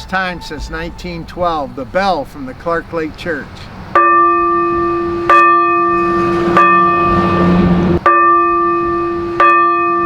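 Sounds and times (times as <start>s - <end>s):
church bell ringing: 0.0s - 2.4s, 4.0s - 10.0s.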